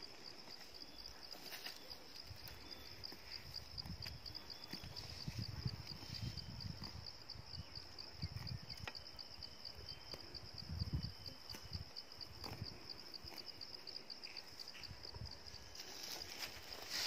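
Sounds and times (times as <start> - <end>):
high-pitched insect chirp: 0.0 - 17.0.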